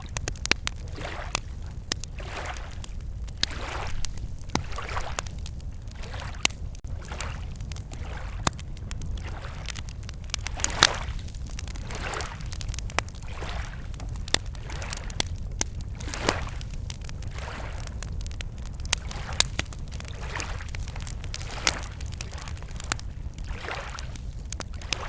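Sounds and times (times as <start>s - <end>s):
lake waves lapping at shore: 0.0s - 15.3s, 16.0s - 17.9s, 18.6s - 25.0s
campfire crackling: 0.0s - 25.0s.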